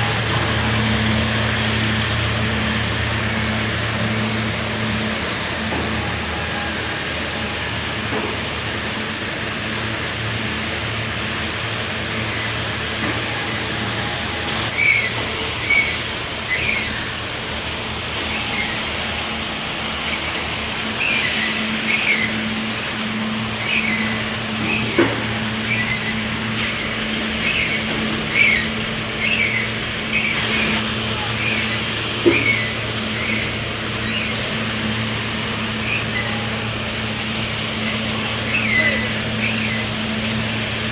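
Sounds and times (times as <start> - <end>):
machinery humming: 0.0 - 40.9.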